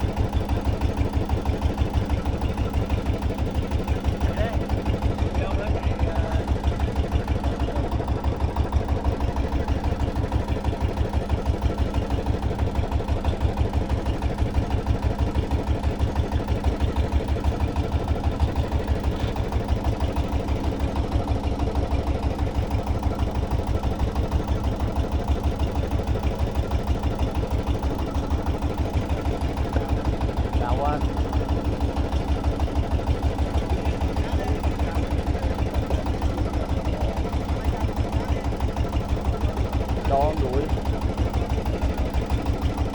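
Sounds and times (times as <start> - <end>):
boat engine thumping: 0.0 - 42.9.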